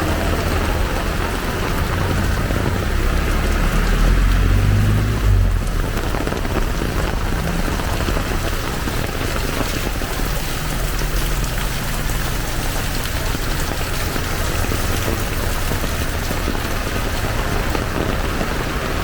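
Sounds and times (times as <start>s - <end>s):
heavy rain on street: 0.0s - 19.0s.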